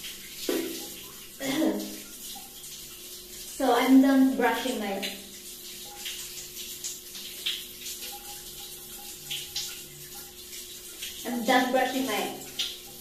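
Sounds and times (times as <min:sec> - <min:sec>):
shower spray running: 0:00.0 - 0:13.0.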